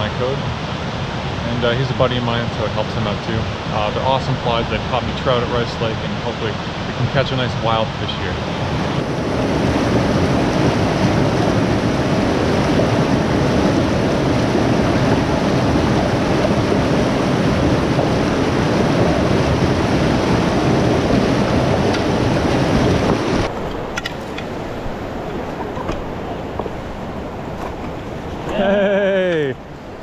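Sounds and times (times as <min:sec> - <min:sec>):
river rushing over rocks: 0:00.0 - 0:30.0.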